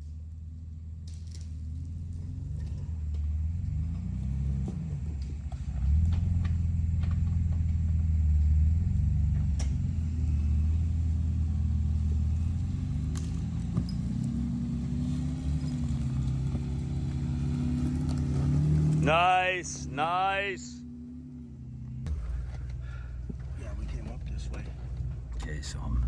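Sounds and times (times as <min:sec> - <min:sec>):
engine running at low revs: 0:00.0 - 0:26.0.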